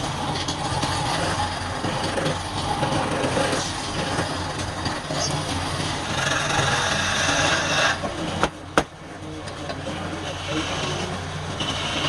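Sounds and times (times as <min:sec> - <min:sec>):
tool cutting spinning wood: 0:00.0 - 0:08.5, 0:10.1 - 0:12.0
wood lathe running: 0:00.0 - 0:08.9, 0:09.8 - 0:12.0.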